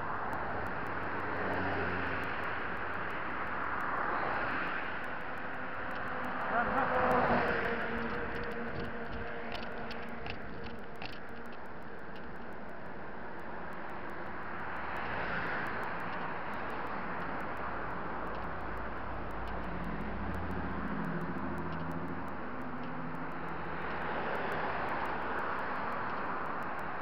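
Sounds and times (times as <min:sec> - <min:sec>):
low vehicle engine hum: 0:00.0 - 0:27.0
road traffic rushing: 0:00.0 - 0:27.0
light clicks: 0:01.8 - 0:13.0, 0:13.6 - 0:27.0.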